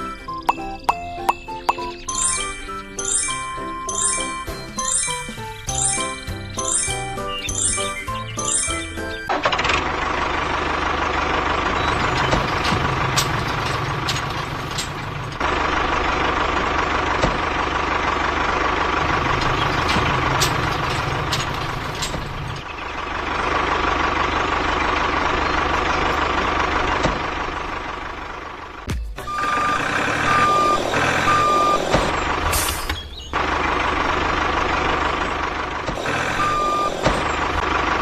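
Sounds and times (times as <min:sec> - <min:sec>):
truck engine droning: 0:00.0 - 0:38.0.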